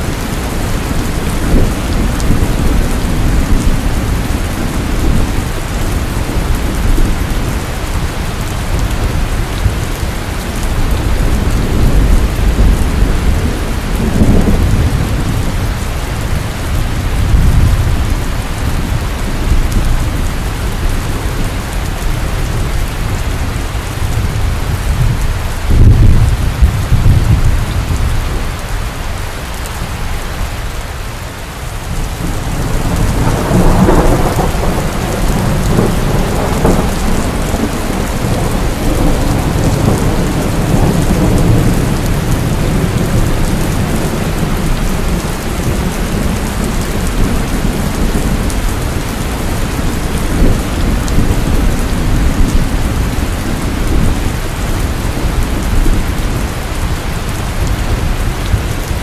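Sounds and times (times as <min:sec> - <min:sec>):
low rolling thunder: 0:00.0 - 0:28.7, 0:31.8 - 0:59.0
heavy rain pouring: 0:00.0 - 0:59.0.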